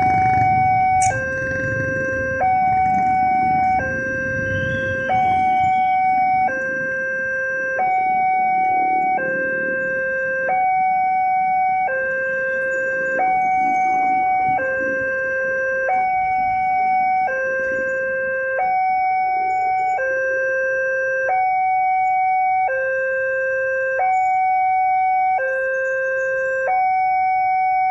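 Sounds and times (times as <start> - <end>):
road traffic: 0.0 - 27.9
two-tone crossing alarm: 0.0 - 27.9.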